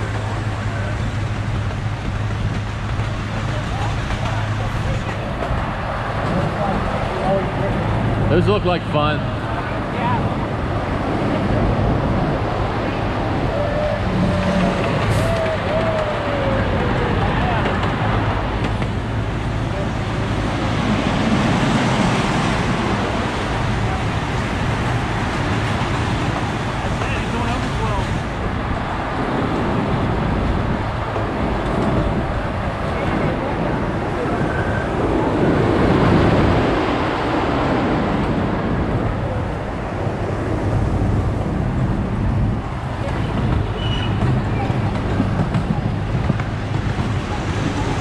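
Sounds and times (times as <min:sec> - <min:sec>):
ride train rumbling: 0:00.0 - 0:48.0.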